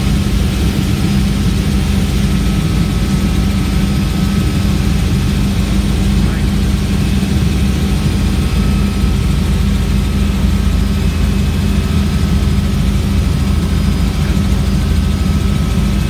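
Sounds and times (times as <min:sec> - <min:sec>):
helicopter engine and rotor noise: 0:00.0 - 0:16.0.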